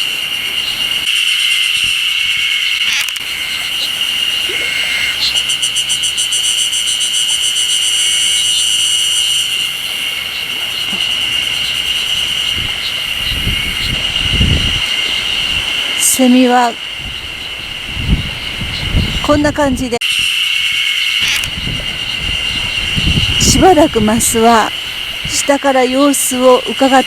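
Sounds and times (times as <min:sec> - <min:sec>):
cicadas buzzing: 0:00.0 - 0:27.0
fast pulsing insect trill: 0:00.4 - 0:19.4, 0:20.2 - 0:27.0.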